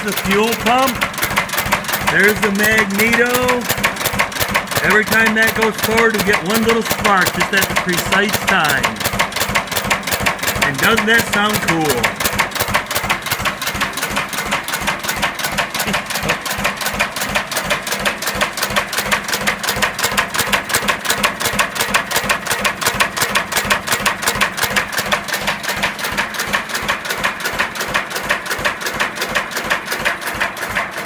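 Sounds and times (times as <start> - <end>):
single-cylinder engine clattering: 0.0 - 31.0.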